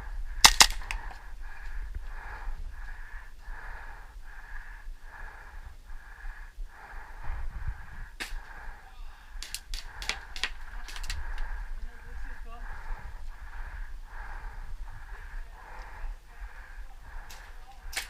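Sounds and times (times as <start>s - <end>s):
fast hard breathing: 0.0s - 18.0s.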